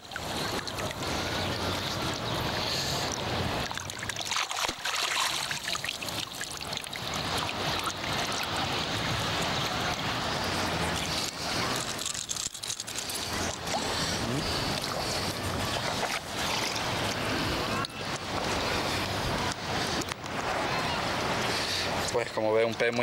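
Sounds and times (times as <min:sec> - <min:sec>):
water splashing and dripping: 0:00.0 - 0:02.3, 0:03.0 - 0:23.0.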